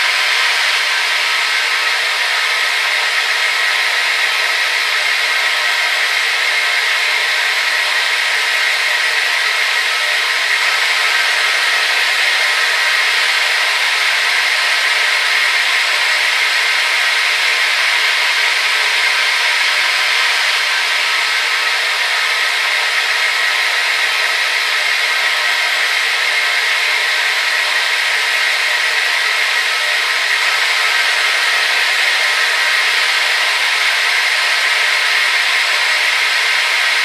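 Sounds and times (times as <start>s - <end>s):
hair dryer running: 0.0s - 37.0s.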